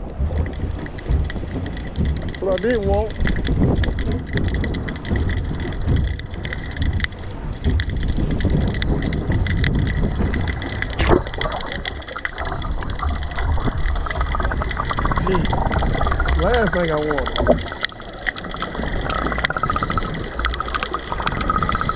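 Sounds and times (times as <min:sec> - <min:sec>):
sea water washing: 0:00.0 - 0:21.9
wind on microphone: 0:00.0 - 0:21.9.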